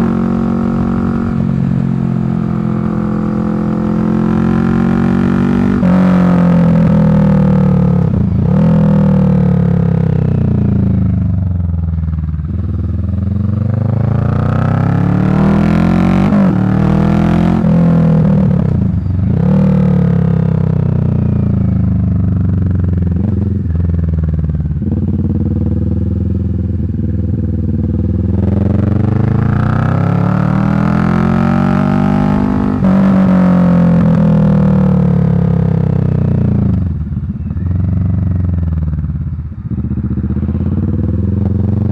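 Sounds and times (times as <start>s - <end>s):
motorcycle exhaust accelerating: 0.0s - 41.9s.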